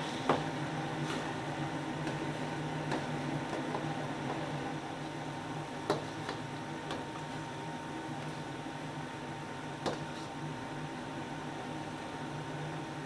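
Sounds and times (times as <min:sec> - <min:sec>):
wok range humming: 0:00.0 - 0:13.0.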